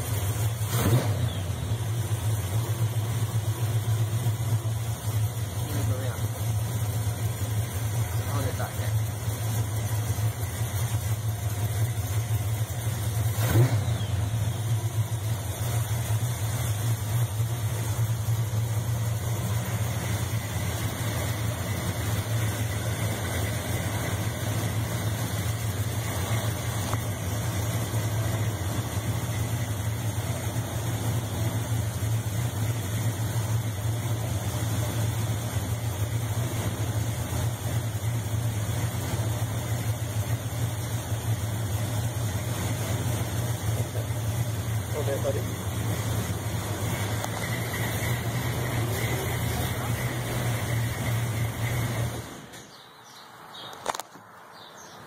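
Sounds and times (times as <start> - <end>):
car engine idling: 0.0 - 52.8.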